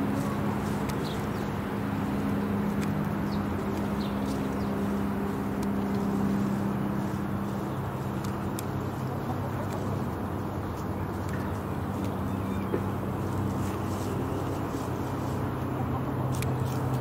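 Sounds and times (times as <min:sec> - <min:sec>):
propeller aircraft droning overhead: 0:00.0 - 0:17.0.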